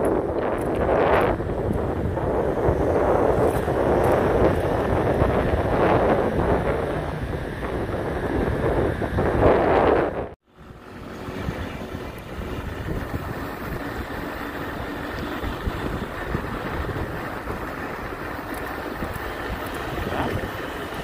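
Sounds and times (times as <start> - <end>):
vehicle road and engine noise: 0.0 - 21.0.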